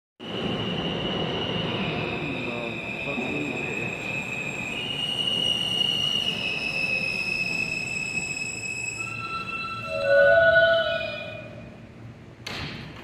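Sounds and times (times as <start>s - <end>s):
subway train brakes squealing: 0.2s - 12.1s
train wheels rumbling: 0.2s - 13.0s.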